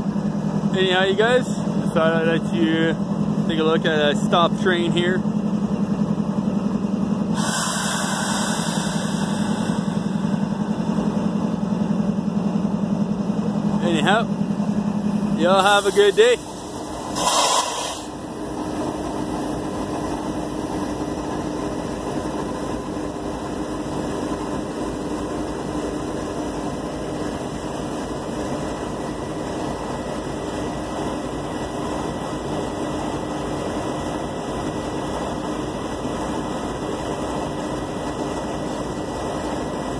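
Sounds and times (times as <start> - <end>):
locomotive engines idling: 0.0 - 39.9.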